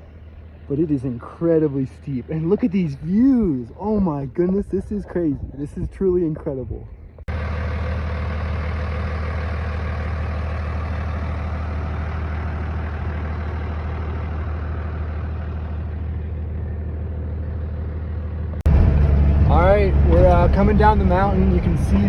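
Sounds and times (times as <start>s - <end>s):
truck engine droning: 0.0s - 5.1s, 6.9s - 22.0s.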